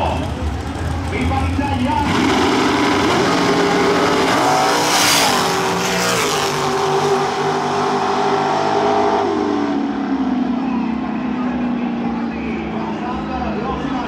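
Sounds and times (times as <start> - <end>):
racing car engine accelerating: 2.0 - 14.0.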